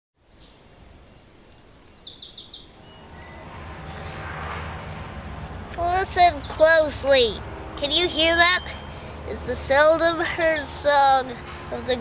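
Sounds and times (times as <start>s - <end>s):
songbird chirping: 0.3s - 12.0s.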